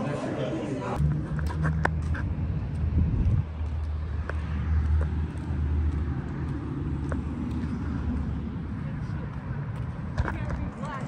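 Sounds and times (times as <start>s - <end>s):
cars going by: 0.0s - 11.0s.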